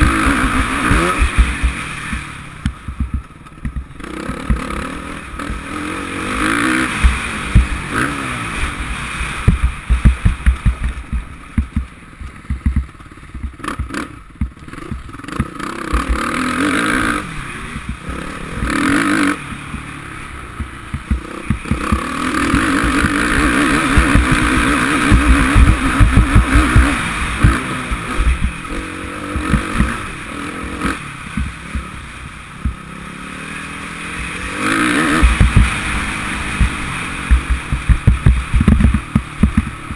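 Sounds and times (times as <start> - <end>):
wind and bump thuds on camera: 0.0 - 5.8, 6.7 - 30.2, 30.8 - 32.9, 34.7 - 39.9
motocross engine revving: 0.0 - 39.9.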